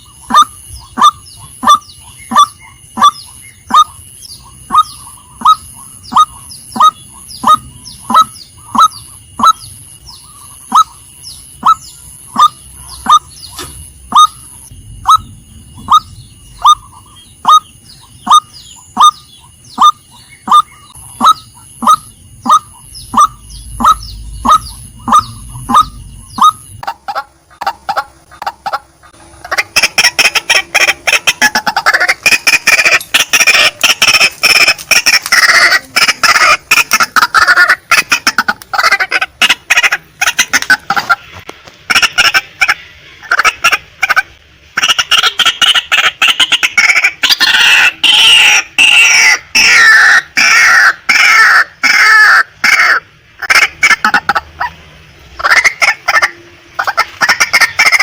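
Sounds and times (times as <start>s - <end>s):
waterhen calling: 0.0s - 11.0s, 11.6s - 54.8s, 55.4s - 58.0s.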